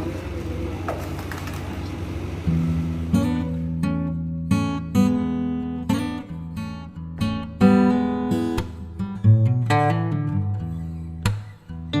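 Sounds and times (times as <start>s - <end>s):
acoustic guitar: 0.0s - 12.0s.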